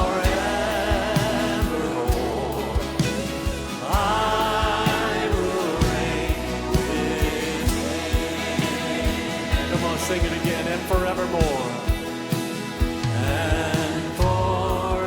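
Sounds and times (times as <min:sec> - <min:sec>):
drum beat: 0:00.0 - 0:15.0
live worship band: 0:00.0 - 0:15.0
voices singing long notes: 0:00.0 - 0:15.0.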